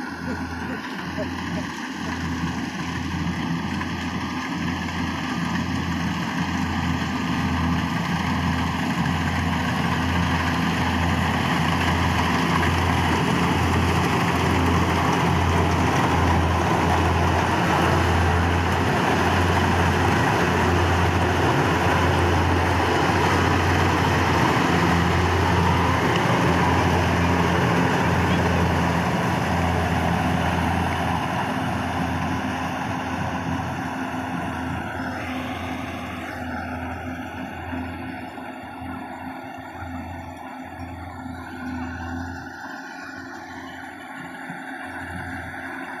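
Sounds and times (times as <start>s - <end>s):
combine harvester engine hum: 0.0s - 46.0s.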